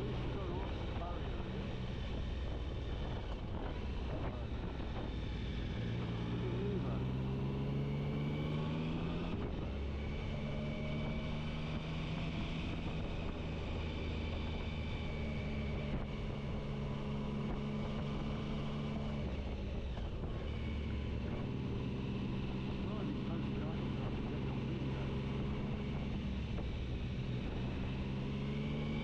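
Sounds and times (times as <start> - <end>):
motorcycle engine running: 0.0 - 29.0
wind and road noise: 0.0 - 29.0.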